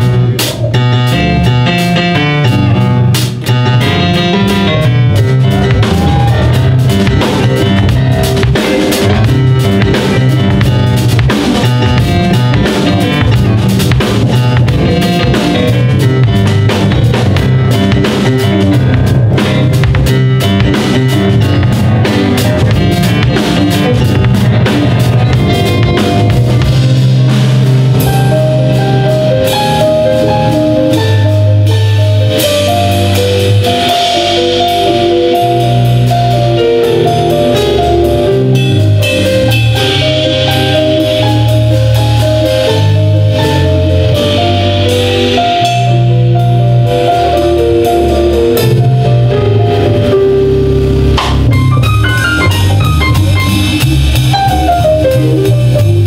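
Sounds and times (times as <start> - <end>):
bass guitar: 0.0 - 56.0
drum kit: 0.0 - 56.0
electric piano runs: 0.0 - 56.0.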